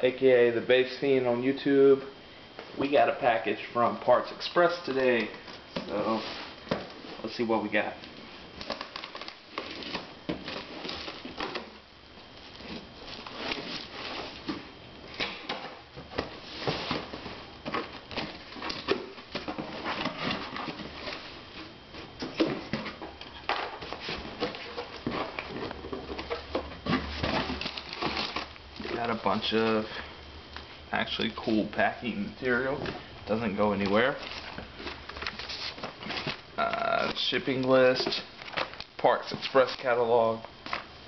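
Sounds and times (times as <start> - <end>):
crinkled paper packing rustling: 2.7 - 41.0.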